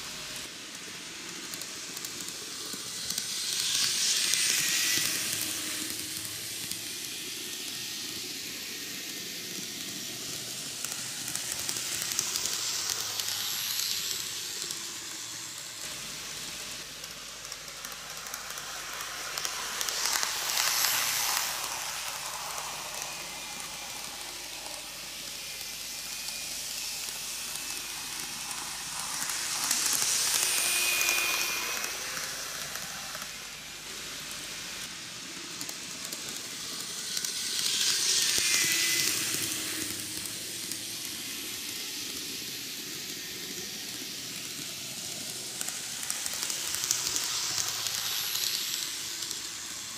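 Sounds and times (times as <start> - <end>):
model train whirring on rails: 0.0 - 49.9.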